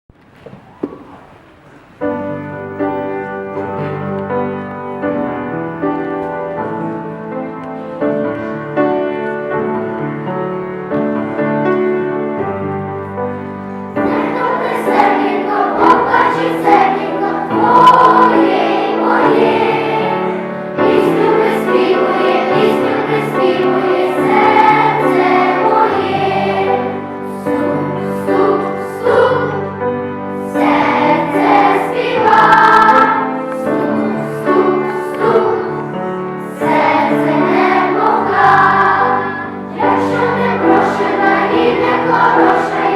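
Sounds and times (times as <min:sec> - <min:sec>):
keyboard playing: 0:02.0 - 0:42.9
choir singing: 0:04.8 - 0:42.9.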